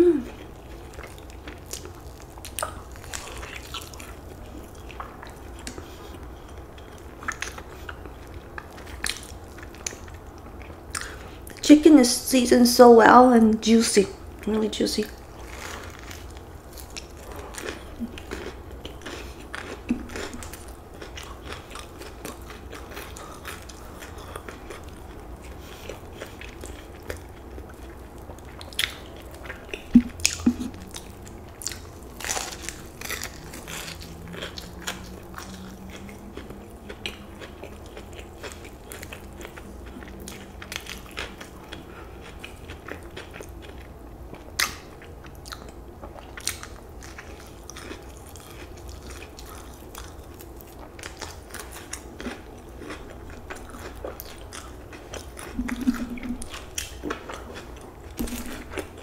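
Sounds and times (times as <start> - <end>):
person chewing crispy chicken: 0.3 - 11.6, 15.2 - 59.0.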